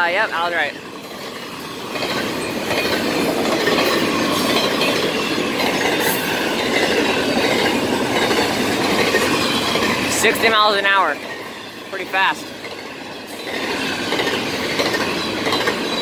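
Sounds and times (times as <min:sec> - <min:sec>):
freight train wheels clattering: 0:00.1 - 0:16.0.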